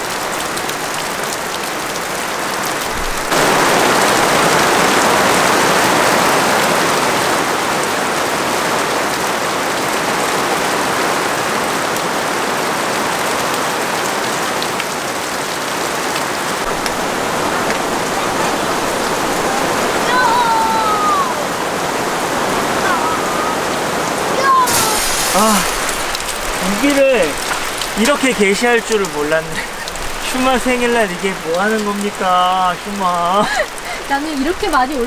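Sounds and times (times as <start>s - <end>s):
heavy rain on a tarp: 0.0s - 35.0s.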